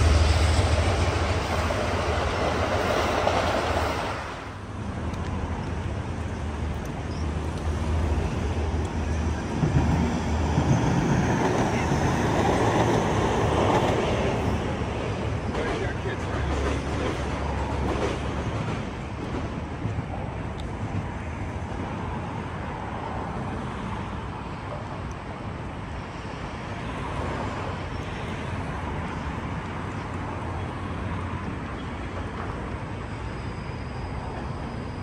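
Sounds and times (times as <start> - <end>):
distant vehicles rumble: 0.0 - 35.0.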